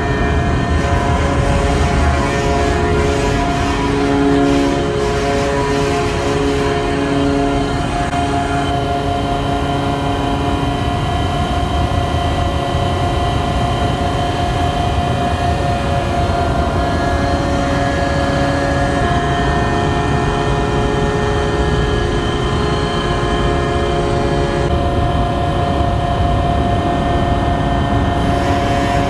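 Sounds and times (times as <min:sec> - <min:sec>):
machinery noise with whining tones: 0:00.0 - 0:29.0.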